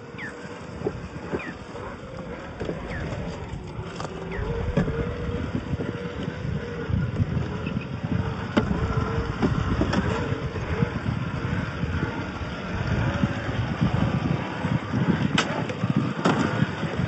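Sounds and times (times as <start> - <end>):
electric motor whine: 0.0 - 17.0
low rumble from rough ground: 0.0 - 17.0.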